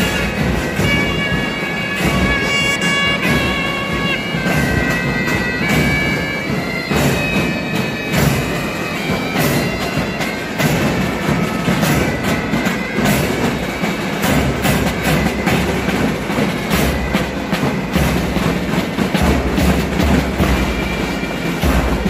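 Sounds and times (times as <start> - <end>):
bagpipes playing melody: 0.0 - 22.0
marching drums: 0.0 - 22.0.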